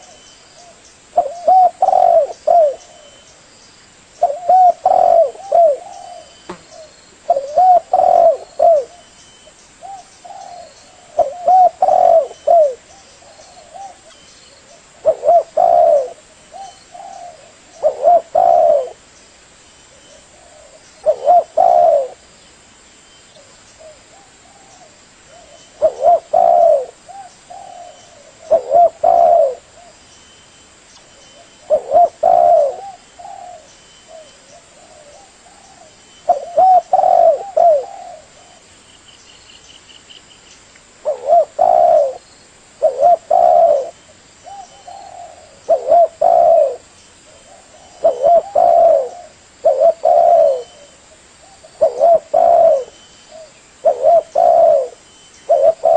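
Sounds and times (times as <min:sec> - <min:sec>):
dove cooing: 0:00.0 - 0:03.3, 0:04.2 - 0:09.1, 0:09.8 - 0:19.0, 0:20.0 - 0:22.2, 0:23.4 - 0:30.0, 0:31.4 - 0:38.7, 0:41.0 - 0:42.2, 0:42.8 - 0:55.9.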